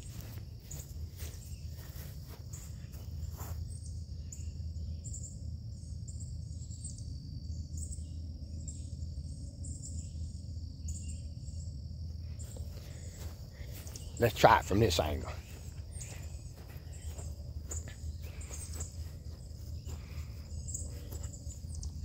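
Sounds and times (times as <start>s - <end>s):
insect chirring: 0.0s - 22.0s.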